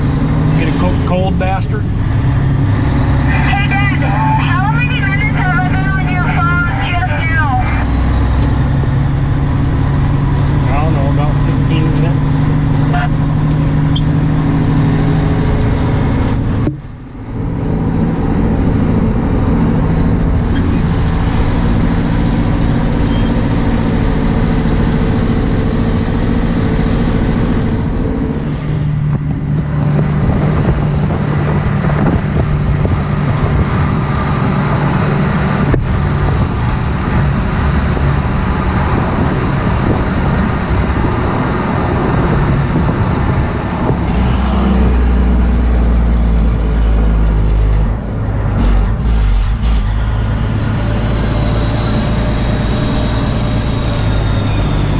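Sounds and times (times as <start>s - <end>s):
heavy vehicle engine rumbling: 0.0s - 54.9s.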